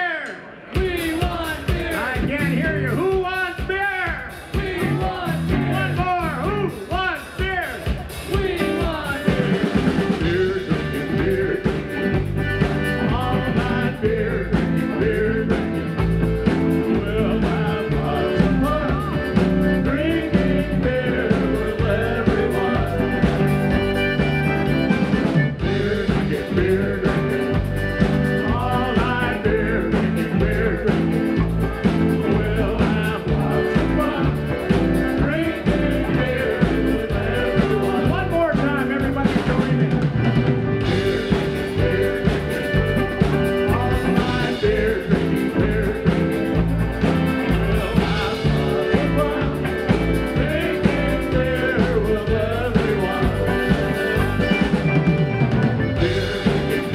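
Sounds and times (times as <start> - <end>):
drum kit: 0.1 - 56.9
accordion: 7.5 - 56.9
electric guitar: 7.9 - 56.9
electric keyboard: 8.8 - 56.9.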